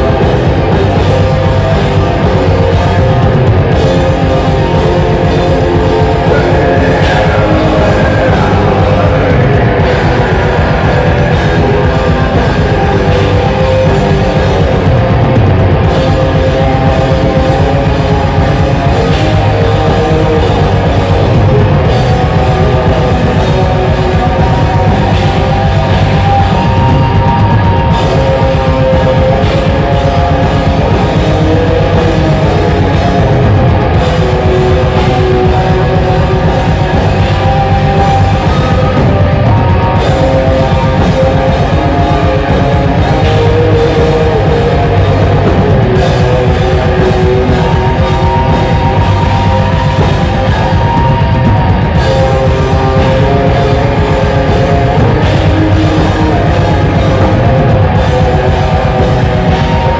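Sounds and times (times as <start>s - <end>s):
bass guitar: 0.0s - 59.9s
distorted electric guitars: 0.0s - 59.9s
rapid drumming: 0.0s - 59.9s.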